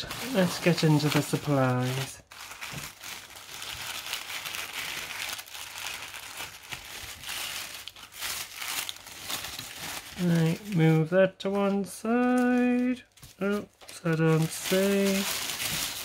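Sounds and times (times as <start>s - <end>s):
tissue paper crinkling: 0.0s - 16.0s.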